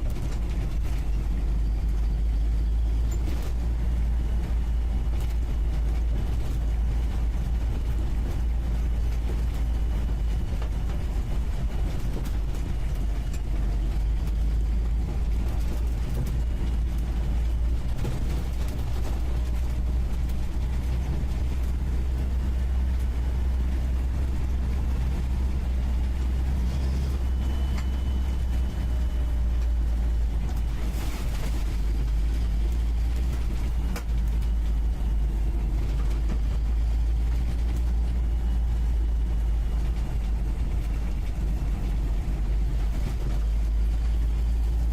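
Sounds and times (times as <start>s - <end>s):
vehicle engine drone from inside cab: 0.0s - 44.9s.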